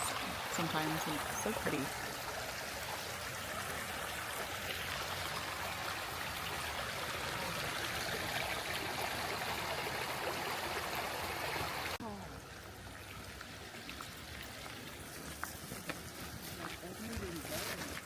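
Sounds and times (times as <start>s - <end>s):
creek flowing: 0.0s - 18.0s.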